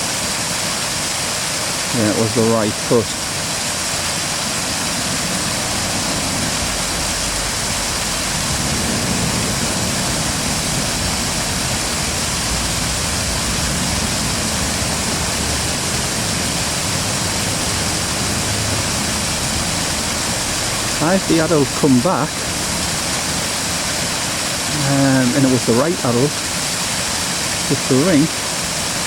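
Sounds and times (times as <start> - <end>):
fast-flowing stream water: 0.0 - 29.0.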